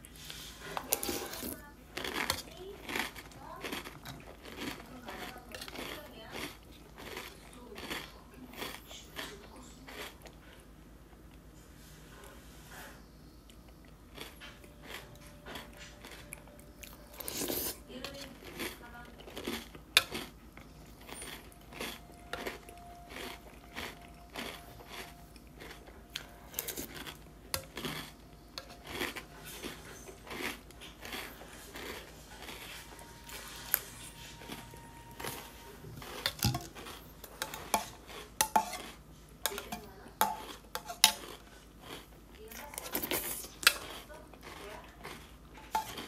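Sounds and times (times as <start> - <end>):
cereal crunching while chewed: 0.0 - 11.4, 13.5 - 46.0.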